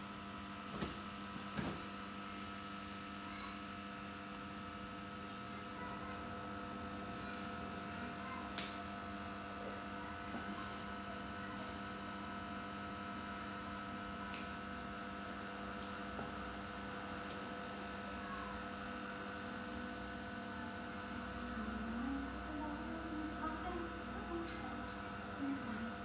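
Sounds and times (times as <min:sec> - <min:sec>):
steady multi-tone hum: 0:00.0 - 0:26.0.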